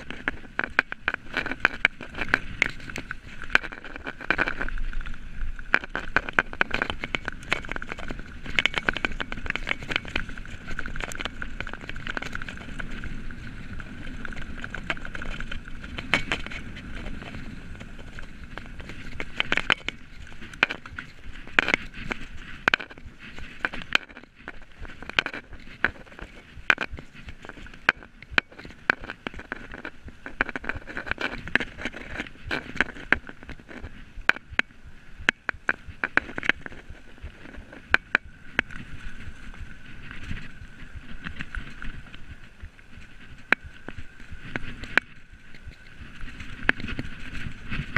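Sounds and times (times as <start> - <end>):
bike rattling over bumps: 0.0 - 47.9
bike tyre noise on dirt: 0.0 - 47.9.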